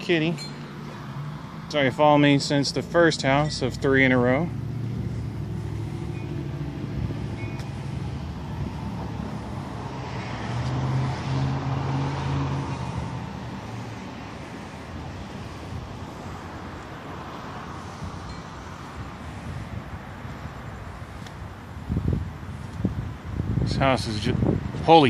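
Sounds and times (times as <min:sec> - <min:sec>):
car passing: 0:00.0 - 0:25.0.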